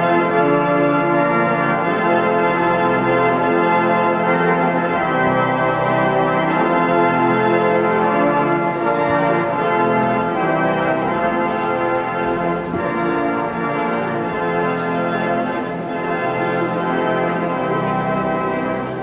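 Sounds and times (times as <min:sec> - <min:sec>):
church organ playing chords: 0:00.0 - 0:19.0.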